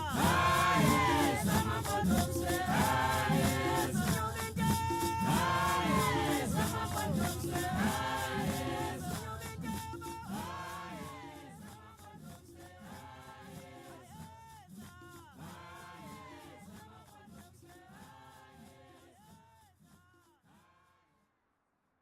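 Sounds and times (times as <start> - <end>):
voices singing together: 0.0 - 19.2
shaker rhythm: 0.0 - 20.6.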